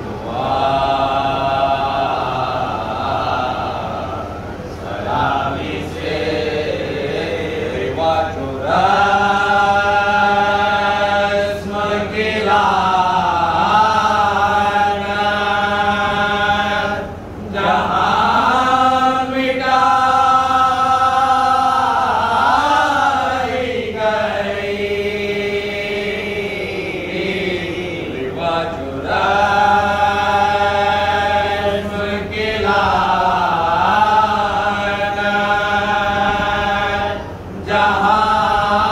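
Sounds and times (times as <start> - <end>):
men chanting together: 0.0 - 38.9.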